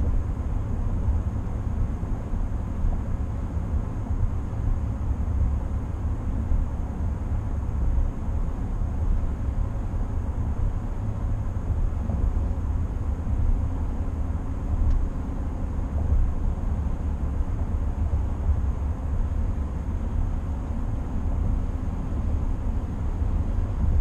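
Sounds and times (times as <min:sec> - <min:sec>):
road and tyre noise in cabin: 0:00.0 - 0:24.0.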